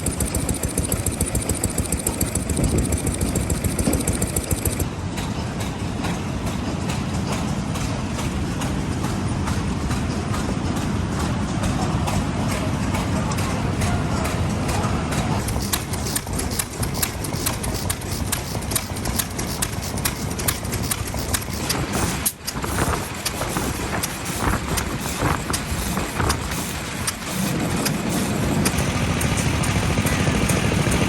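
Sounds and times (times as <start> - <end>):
low engine rumble: 0.0 - 31.0
stationary engines knocking exhaust: 0.0 - 31.0.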